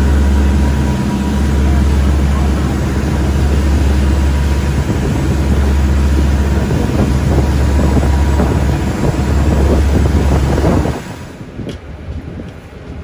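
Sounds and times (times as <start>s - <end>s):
boat engine droning: 0.0s - 13.0s
churning wake: 0.0s - 13.0s
wind buffeting microphone: 0.0s - 13.0s.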